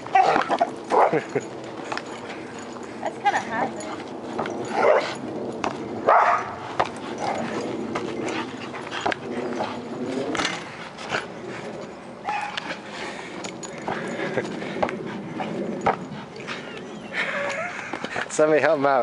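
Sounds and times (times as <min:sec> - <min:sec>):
dogs whining and yipping: 0:00.0 - 0:18.2.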